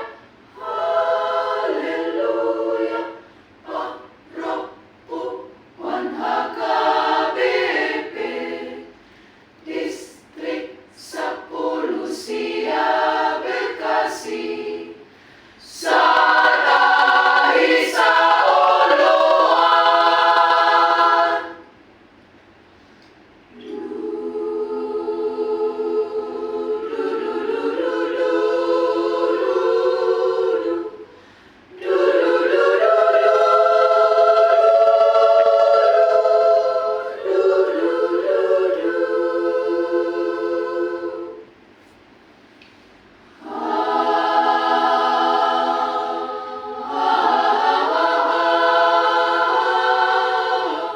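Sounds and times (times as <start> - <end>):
choir singing: 0.0 - 9.0, 9.6 - 21.8, 23.5 - 41.7, 43.3 - 50.9.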